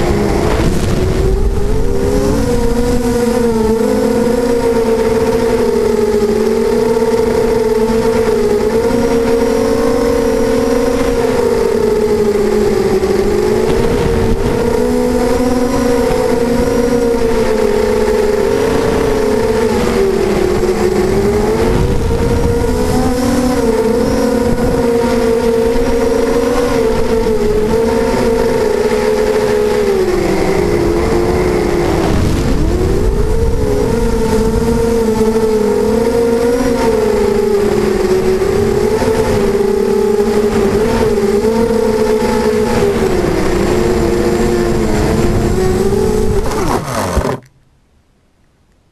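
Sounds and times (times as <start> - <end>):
wind on microphone: 0.0 - 47.5
drone motors whining: 0.0 - 47.6.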